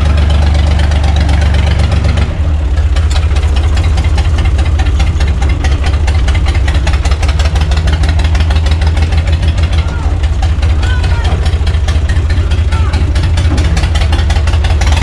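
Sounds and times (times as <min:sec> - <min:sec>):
tractor diesel engine clattering: 0:00.0 - 0:15.0.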